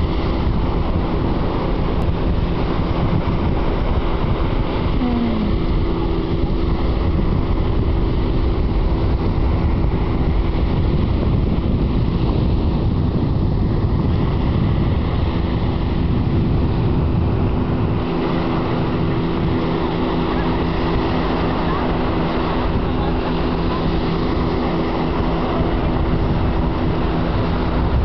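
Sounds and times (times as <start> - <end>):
small waves washing onto beach: 0.0 - 28.0
wind buffeting microphone: 0.0 - 28.0.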